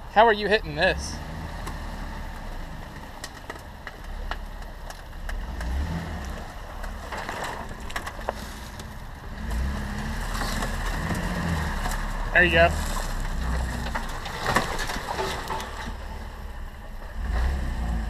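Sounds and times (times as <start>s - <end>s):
engine running low: 0.0s - 18.0s
tyres crunching over rocks: 1.6s - 17.0s.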